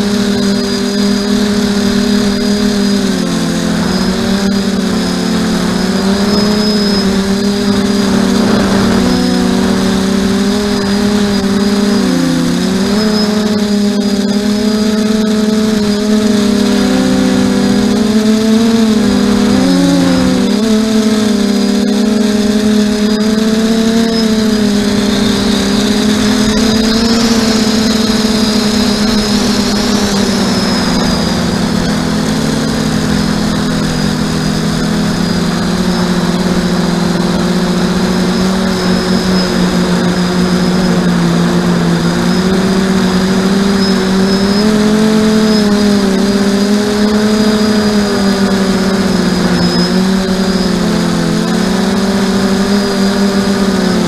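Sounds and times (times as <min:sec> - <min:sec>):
drone motors and propellers droning: 0:00.0 - 0:54.0.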